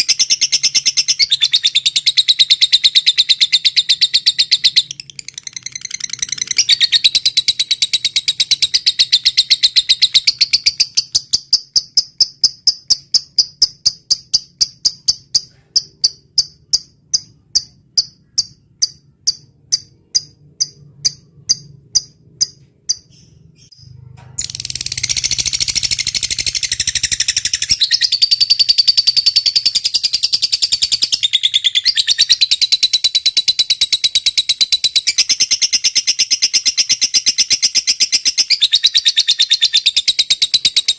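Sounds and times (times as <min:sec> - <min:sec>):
high-pitched bird chirping: 0:00.0 - 0:40.9.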